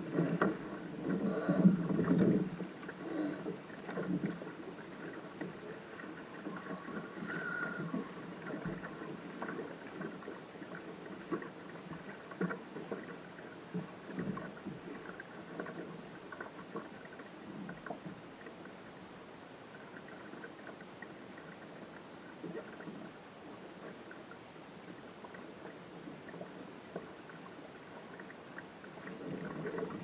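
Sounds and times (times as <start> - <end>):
water splashing against a boat: 0.0 - 30.0.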